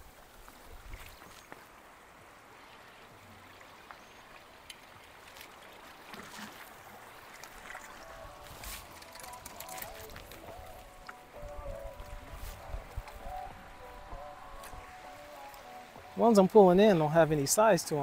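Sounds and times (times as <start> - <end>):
seawater washing along rocks: 0.0 - 18.0.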